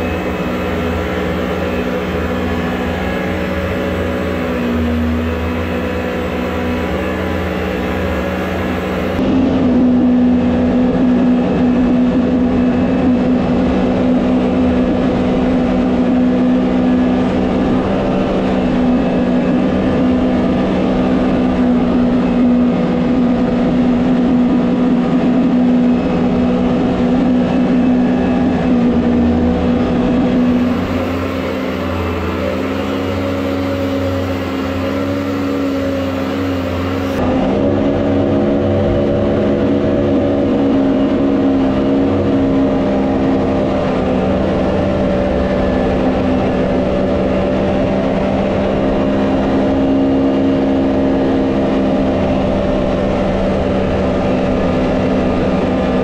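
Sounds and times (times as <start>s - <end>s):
boat engine running at high revs: 0.0s - 56.0s.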